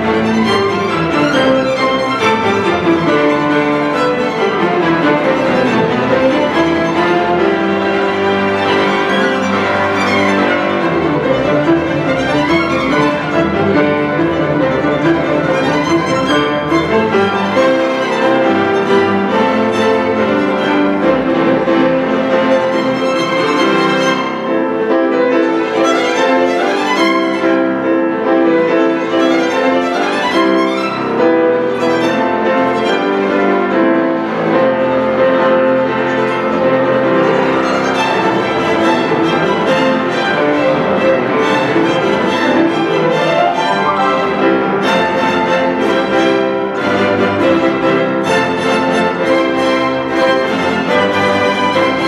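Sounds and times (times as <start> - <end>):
grand piano: 0.0 - 52.0
string orchestra: 0.0 - 52.0.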